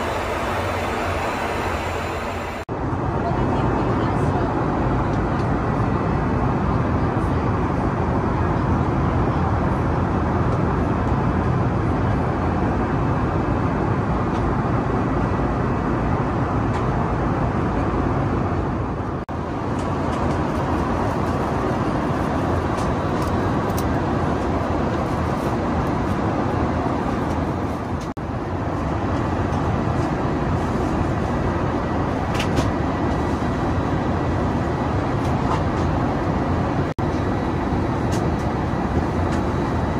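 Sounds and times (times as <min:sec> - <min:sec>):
aircraft cabin engine and airflow: 0:00.0 - 0:39.9.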